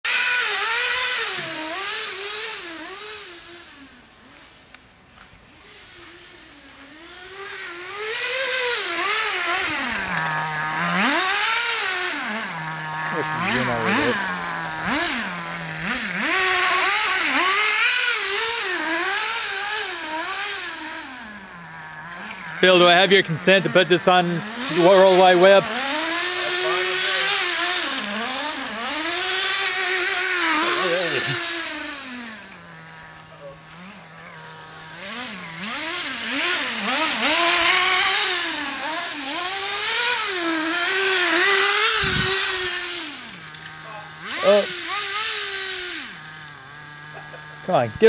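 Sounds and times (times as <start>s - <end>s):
small engine revving: 0.0s - 48.0s.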